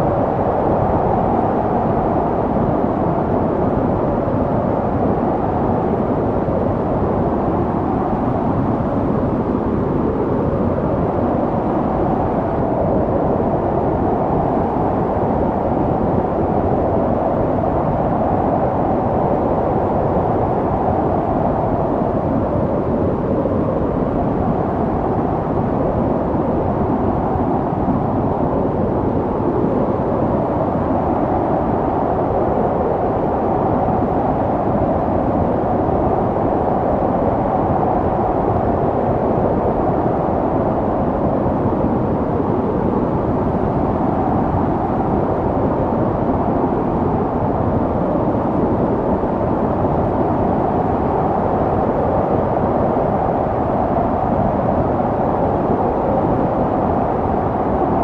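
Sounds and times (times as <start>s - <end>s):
snowstorm wind blowing: 0.0s - 58.0s.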